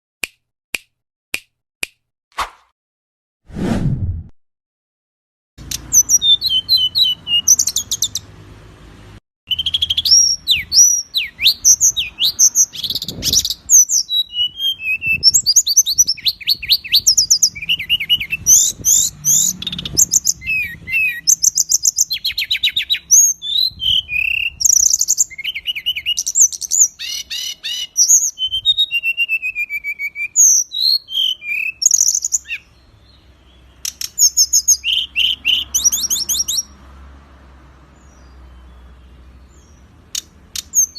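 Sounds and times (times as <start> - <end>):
songbird singing: 5.6 - 8.5, 9.5 - 40.9.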